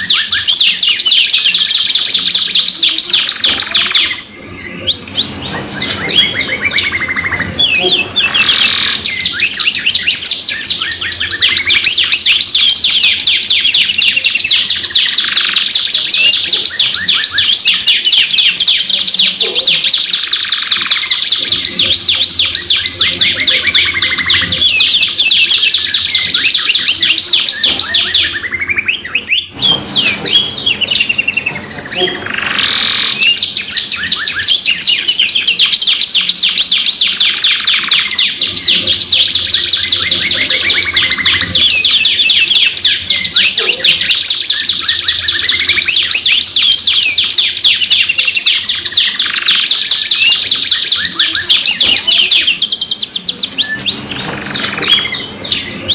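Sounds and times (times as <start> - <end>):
canaries singing trills: 0.0 - 55.9.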